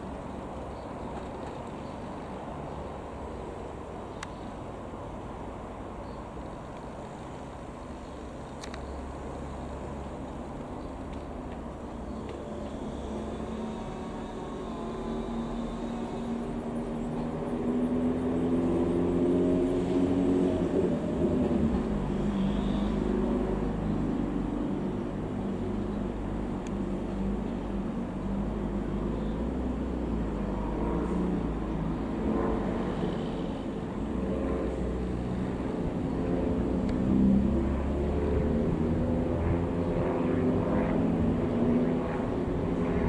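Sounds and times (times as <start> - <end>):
propeller aircraft engine droning: 0.0 - 43.0.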